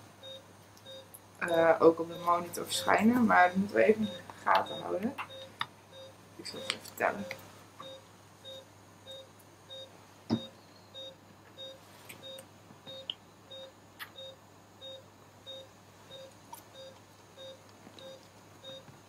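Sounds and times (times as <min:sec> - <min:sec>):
monitor beeping: 0:00.2 - 0:18.9.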